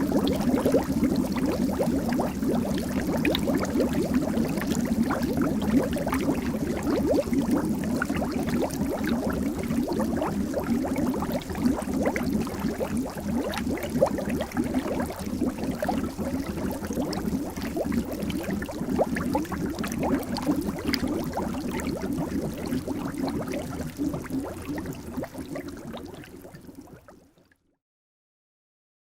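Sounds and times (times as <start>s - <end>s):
water bubbling: 0.0s - 27.5s.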